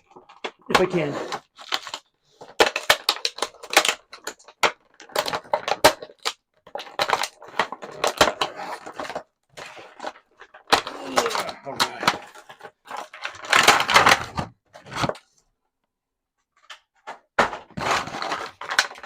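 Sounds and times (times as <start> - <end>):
plastic packaging crinkling: 0.1 - 14.2, 17.8 - 19.0.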